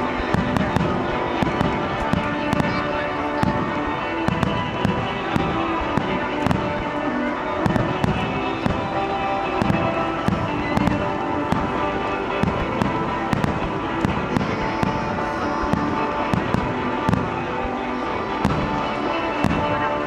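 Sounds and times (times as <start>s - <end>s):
fireworks booming and cracking: 0.0s - 20.0s
music with held tones: 0.0s - 20.0s.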